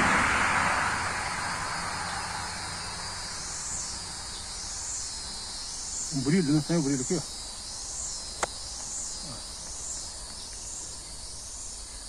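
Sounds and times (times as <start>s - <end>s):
insects droning: 0.0s - 12.0s
rising high calls: 0.0s - 12.0s.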